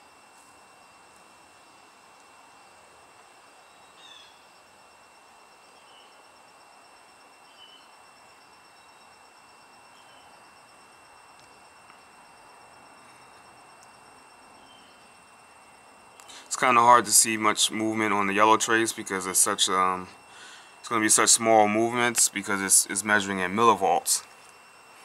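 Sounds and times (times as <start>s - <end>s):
high thin insect trill: 0.0s - 25.0s
faint chirps: 3.4s - 25.0s.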